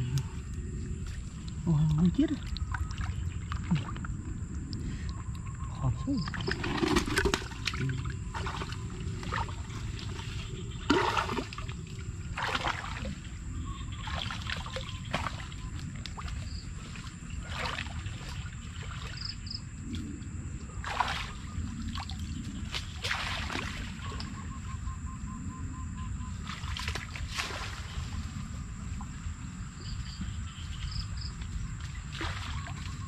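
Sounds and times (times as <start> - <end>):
wading through muddy water: 0.0 - 24.9, 26.3 - 33.0.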